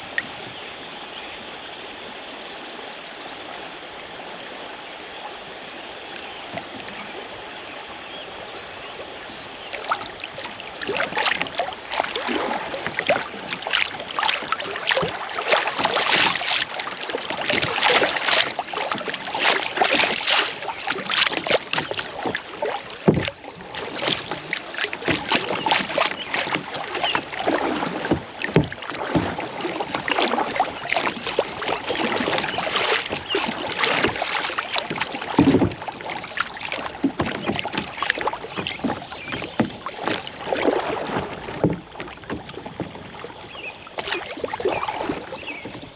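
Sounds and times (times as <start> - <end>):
flowing water rushing: 0.0 - 45.9
kayak paddle splashing in water: 4.9 - 45.9.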